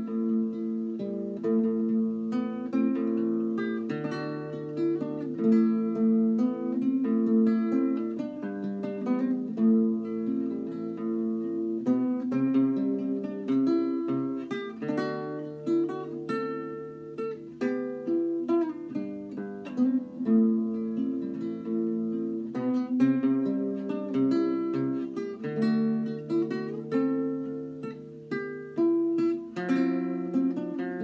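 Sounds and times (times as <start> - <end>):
fingerstyle classical guitar: 0.0 - 31.0.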